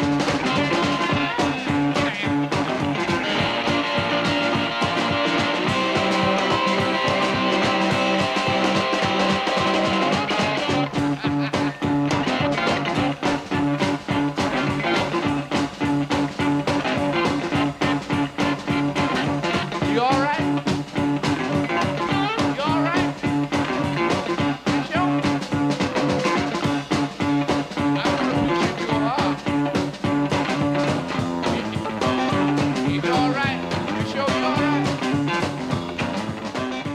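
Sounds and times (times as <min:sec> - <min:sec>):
electric guitar bending notes: 0:00.0 - 0:36.9
regular drumbeat: 0:00.0 - 0:36.9
repeating bass line: 0:00.0 - 0:36.9.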